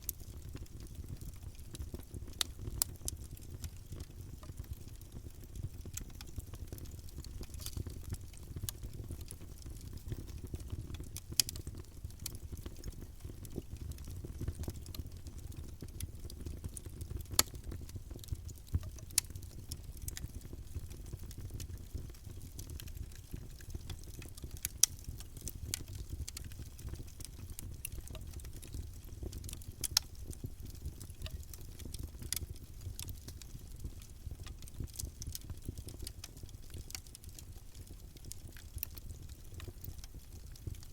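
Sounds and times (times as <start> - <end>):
campfire rumble: 0.0 - 40.9
wood crackling and popping: 0.0 - 40.9.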